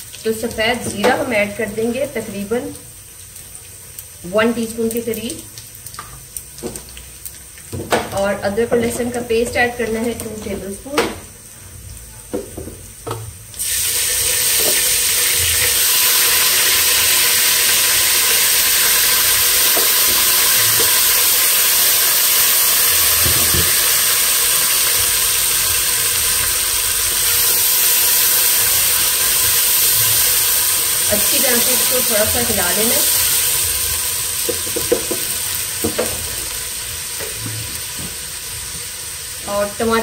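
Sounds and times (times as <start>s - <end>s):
loud sizzle in hot oil: 0.0s - 40.0s.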